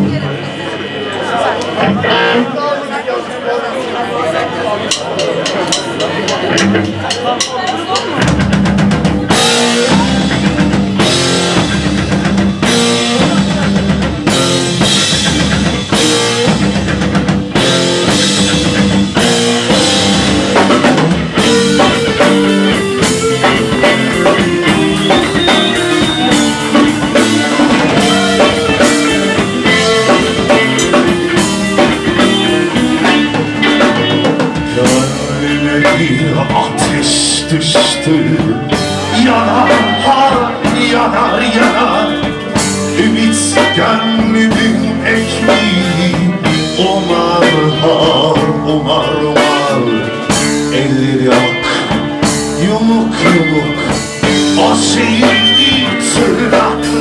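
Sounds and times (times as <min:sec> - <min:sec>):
rock band playing: 0:00.0 - 0:03.0, 0:03.9 - 0:57.0
heavy drum accents: 0:04.8 - 0:57.0.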